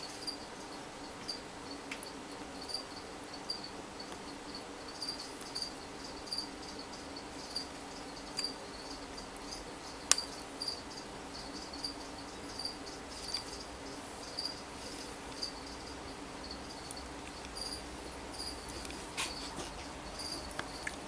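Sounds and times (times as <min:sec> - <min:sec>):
faint steady hum: 0:00.0 - 0:21.0
insect chirping: 0:00.0 - 0:21.0.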